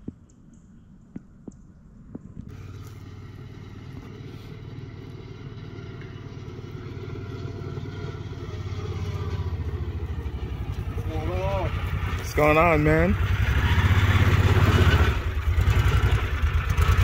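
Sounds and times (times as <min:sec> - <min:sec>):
motor vehicle engine running: 0:02.4 - 0:17.0.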